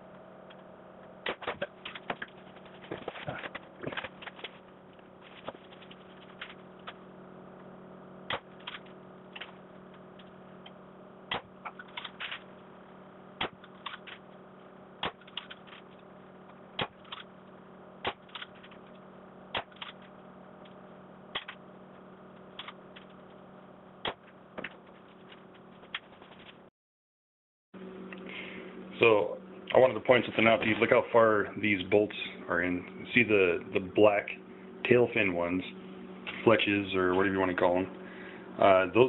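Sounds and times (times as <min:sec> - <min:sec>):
steady low hum: 0:00.0 - 0:26.7, 0:27.8 - 0:39.0.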